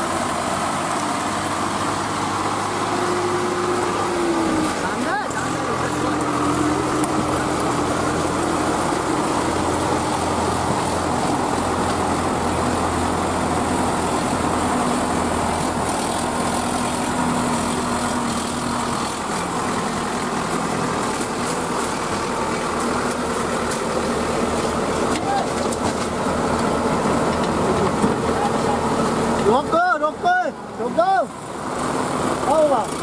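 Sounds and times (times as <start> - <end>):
diesel tractor engines under load: 0.0 - 33.0.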